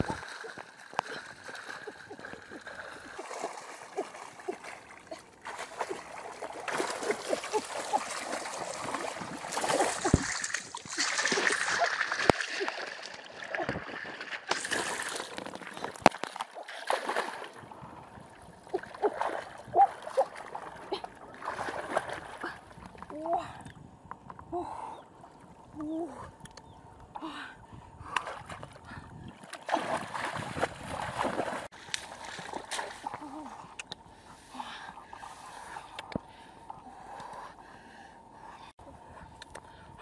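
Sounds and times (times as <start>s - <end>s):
water splashing and sloshing: 0.0s - 23.7s, 28.0s - 38.0s.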